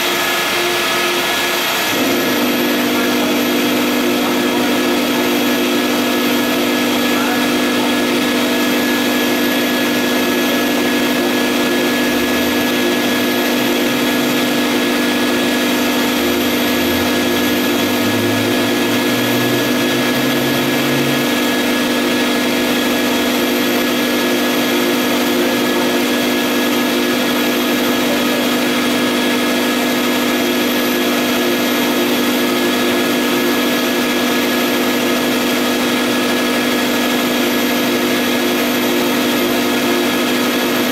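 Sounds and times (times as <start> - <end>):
printer machine drone: 0.0 - 40.9.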